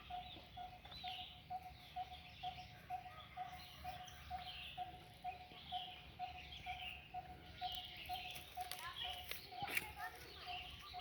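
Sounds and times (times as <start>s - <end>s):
higher bird chirps: 0.0s - 11.0s.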